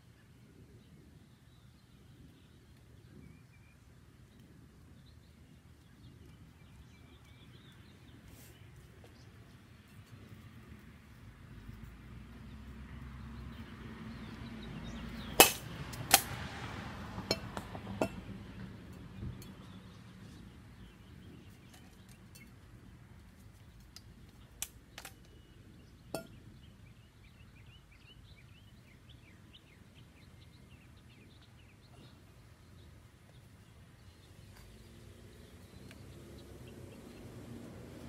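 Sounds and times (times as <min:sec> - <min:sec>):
birds chirping: 0:00.0 - 0:16.0, 0:17.3 - 0:38.0.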